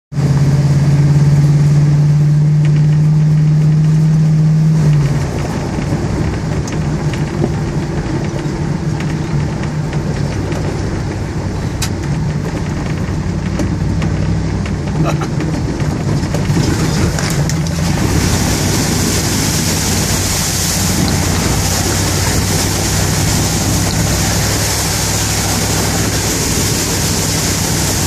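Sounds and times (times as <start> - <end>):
vehicle engine running: 0.1 - 28.0
tyres on gravel: 4.8 - 28.0.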